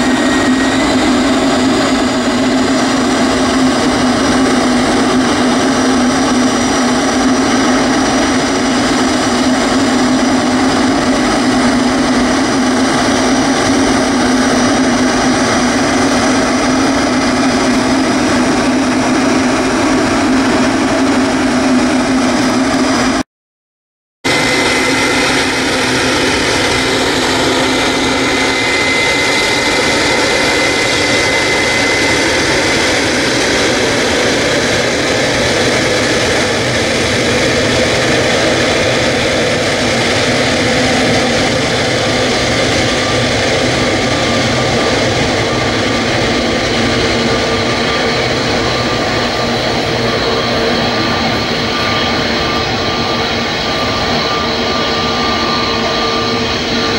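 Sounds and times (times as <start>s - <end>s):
jet engines whining: 0.0s - 23.2s, 24.3s - 56.9s.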